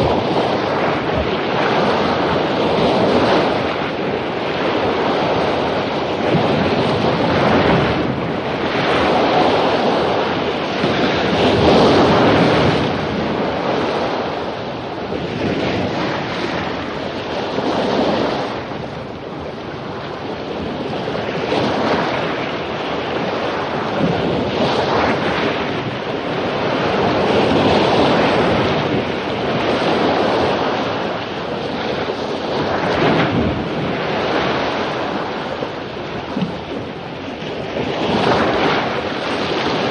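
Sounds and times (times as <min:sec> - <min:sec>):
waves breaking on beach: 0:00.0 - 0:39.9
wind noise: 0:00.0 - 0:39.9.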